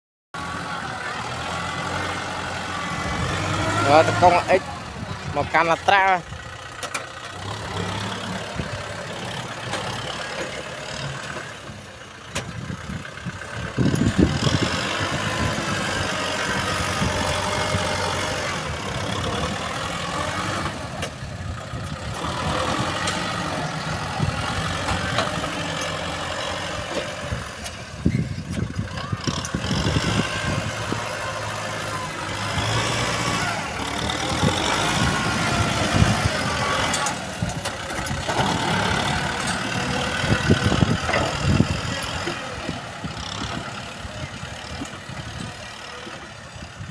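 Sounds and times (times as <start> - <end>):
tractor engine running: 0.4 - 46.9.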